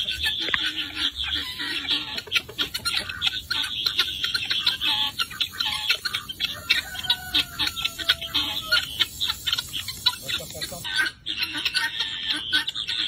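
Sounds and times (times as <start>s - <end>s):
guineafowl alarm calls: 0.0s - 13.0s.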